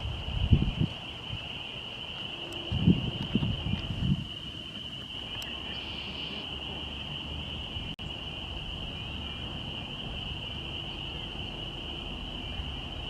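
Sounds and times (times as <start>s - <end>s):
faint outdoor background noise: 0.0s - 13.0s
frogs peeping chorus: 0.0s - 13.0s.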